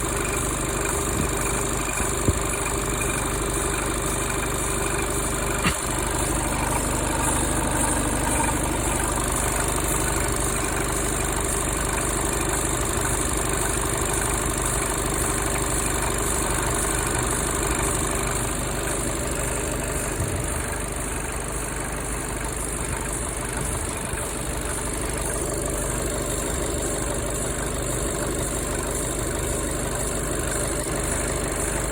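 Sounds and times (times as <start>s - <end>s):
diesel engine idling: 0.0s - 31.9s
short engine knocks: 0.4s - 17.0s, 17.7s - 28.2s.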